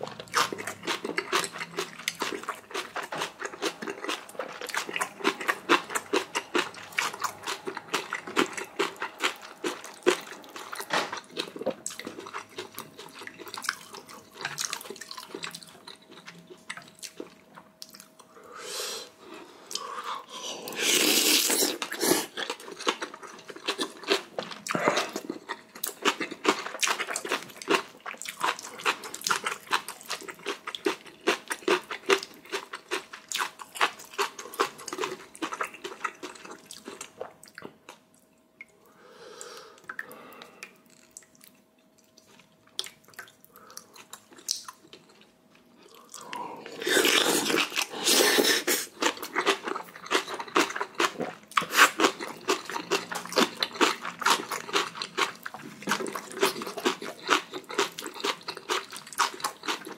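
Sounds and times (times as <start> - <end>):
wet chewing and crunching: 0.0 - 18.3, 20.8 - 38.4, 39.8 - 59.9.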